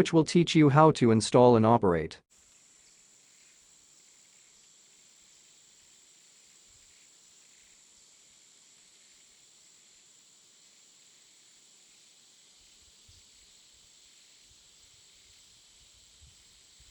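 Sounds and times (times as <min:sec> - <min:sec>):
faint steady hiss: 0:00.0 - 0:16.9.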